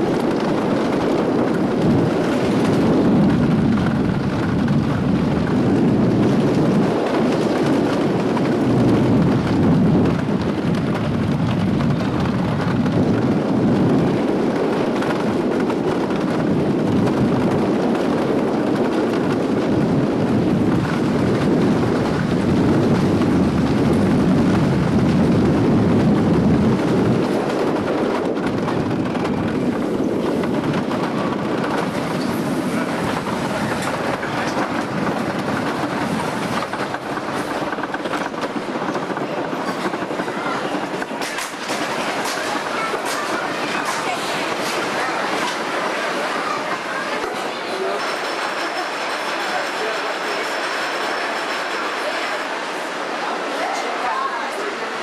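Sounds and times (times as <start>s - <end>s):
roller coaster rumbling on wooden track: 0.0s - 55.0s.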